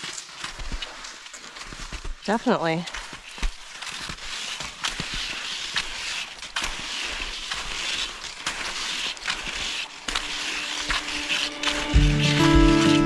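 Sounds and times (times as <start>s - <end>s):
skis hissing over snow: 0.0s - 13.0s.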